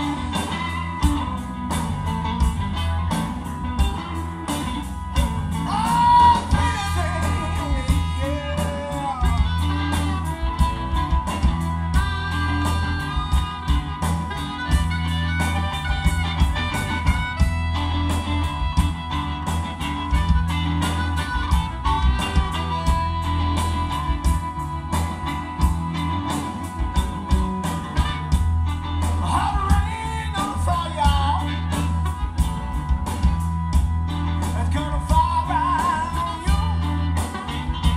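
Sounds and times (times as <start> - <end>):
bending electric guitar notes: 0.0 - 37.9
electric blues band playing: 0.0 - 37.9.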